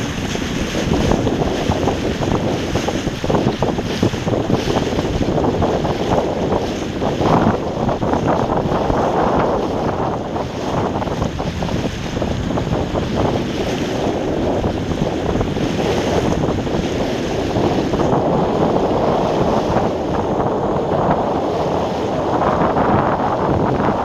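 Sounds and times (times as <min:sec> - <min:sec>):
waves washing around boat: 0:00.0 - 0:24.0
wind buffeting microphone: 0:00.0 - 0:24.0.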